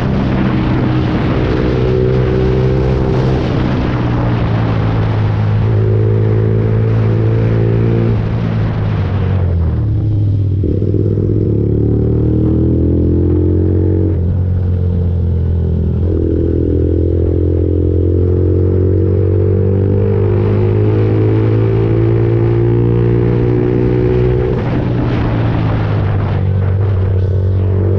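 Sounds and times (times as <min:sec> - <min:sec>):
motorcycle engine running: 0:00.0 - 0:27.9
wind rush on microphone: 0:00.0 - 0:27.9.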